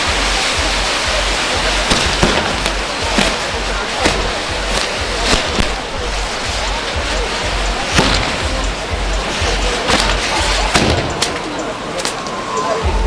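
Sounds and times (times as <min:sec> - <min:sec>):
sharp firework cracks: 0:00.0 - 0:12.2
fireworks hissing and fizzing: 0:00.0 - 0:13.0.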